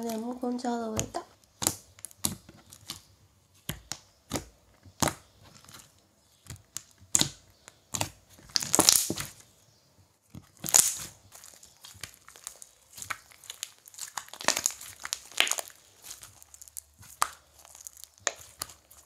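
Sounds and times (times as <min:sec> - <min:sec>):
slime crackling and snapping: 0:00.0 - 0:09.5, 0:10.3 - 0:19.0.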